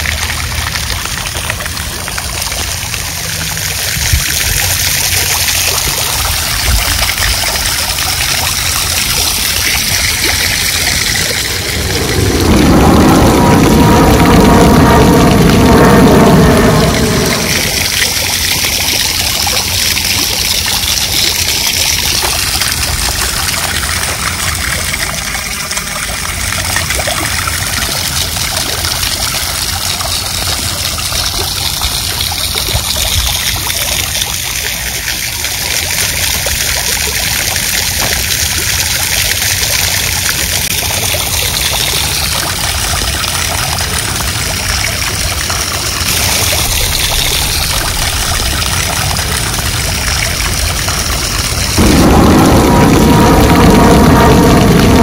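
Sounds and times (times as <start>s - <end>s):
fountain water splashing: 0.0s - 55.0s
low rumble: 0.0s - 55.0s.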